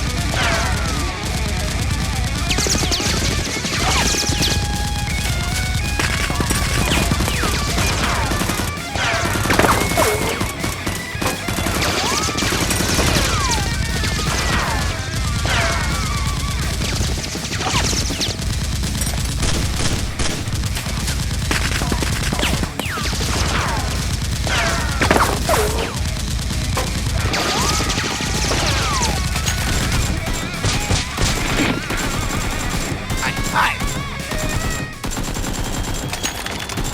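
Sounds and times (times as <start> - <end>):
rapid gunfire: 0.0 - 36.9.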